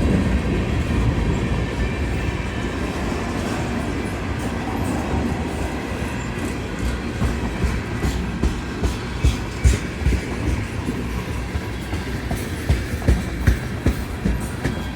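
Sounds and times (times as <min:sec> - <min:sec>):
train rumbling on rails: 0:00.0 - 0:14.9.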